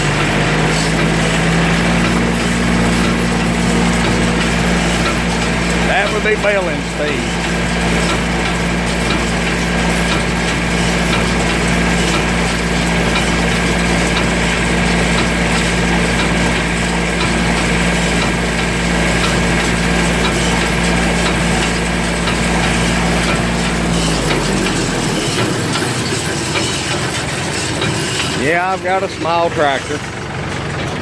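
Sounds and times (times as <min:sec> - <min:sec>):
tractor running baler: 0:00.0 - 0:31.0.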